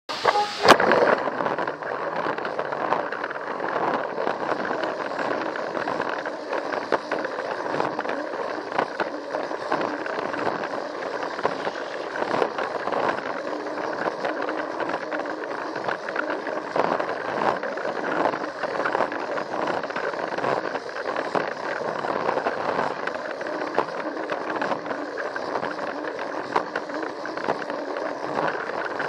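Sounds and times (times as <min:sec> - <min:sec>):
toy train motor running: 0:00.1 - 0:29.0
wheels rattling on plastic track: 0:00.1 - 0:29.0.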